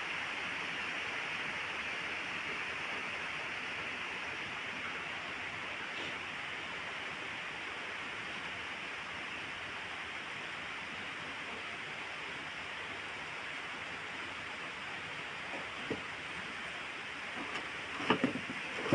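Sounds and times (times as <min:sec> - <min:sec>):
steady rain: 0:00.0 - 0:18.9.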